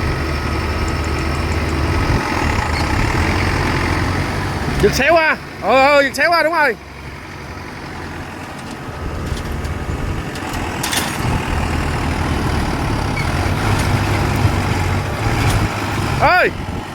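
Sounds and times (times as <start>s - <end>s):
combine harvester diesel engine: 0.0s - 16.9s.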